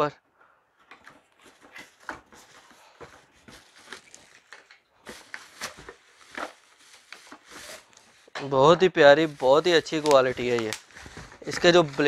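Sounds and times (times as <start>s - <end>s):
cardboard and plastic rustling: 0.9s - 12.0s.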